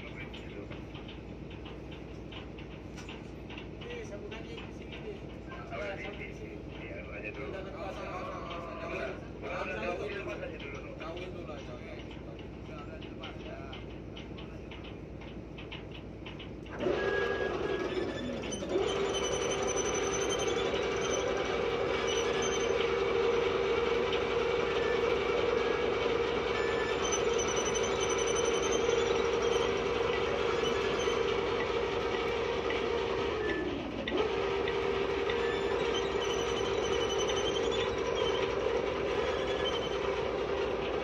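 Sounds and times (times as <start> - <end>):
winch mechanical whine: 0.0 - 41.0.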